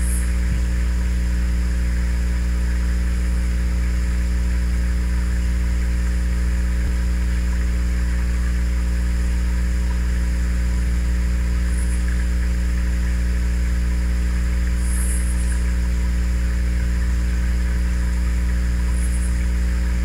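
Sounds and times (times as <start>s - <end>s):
low hum with hiss: 0.0s - 20.0s.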